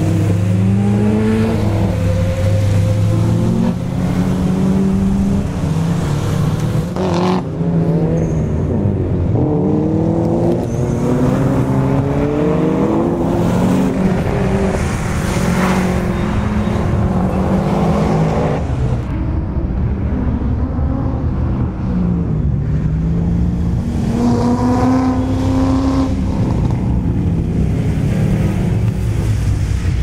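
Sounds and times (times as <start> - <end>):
car engine revving: 0.0 - 29.7.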